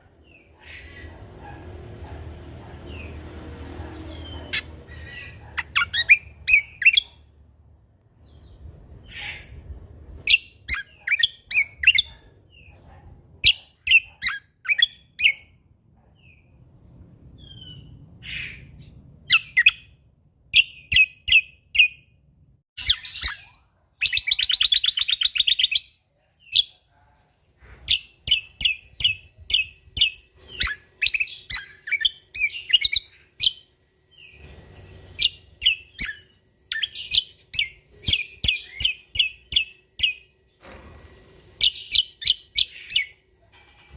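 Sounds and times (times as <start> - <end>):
songbird chirping and trilling: 0.0 - 1.6, 2.8 - 7.2, 8.2 - 12.8, 13.4 - 15.6, 17.4 - 22.1, 22.8 - 40.6, 41.6 - 43.2.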